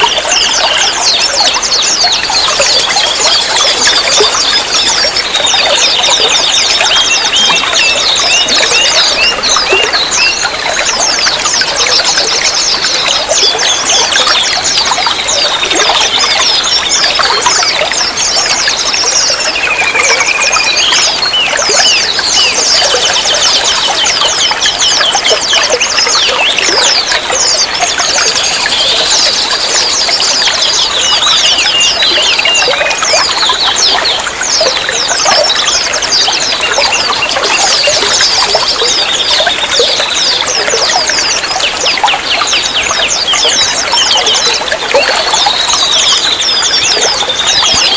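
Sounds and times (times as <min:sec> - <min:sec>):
songbirds chirping: 0:00.0 - 0:47.9
water trickling and pouring: 0:00.0 - 0:47.9.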